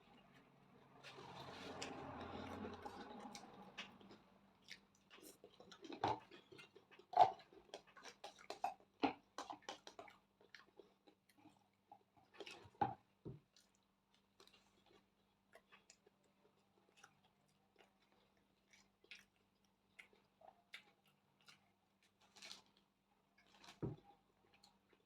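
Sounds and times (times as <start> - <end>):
chewing and biting: 0.1 - 25.0.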